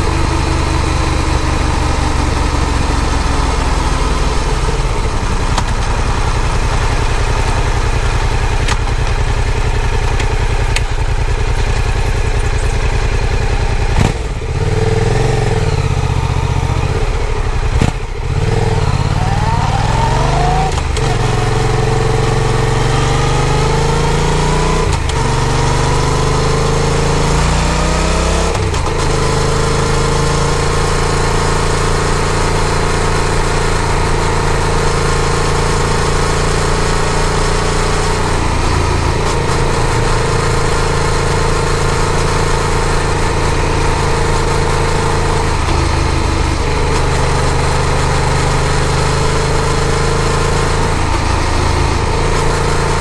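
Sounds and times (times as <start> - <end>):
motorcycle engine revving: 0.0 - 53.0
road and wind noise: 0.0 - 53.0.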